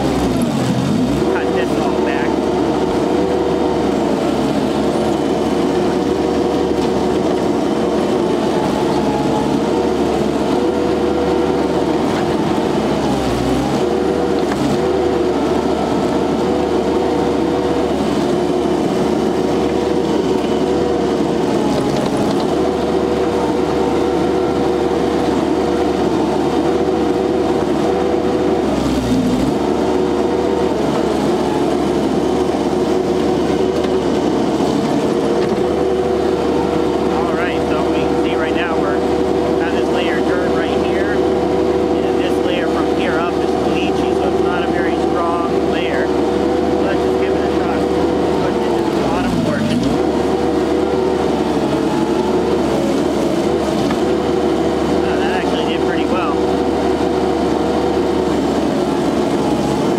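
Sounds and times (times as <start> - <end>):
loader engine running: 0.0 - 59.9.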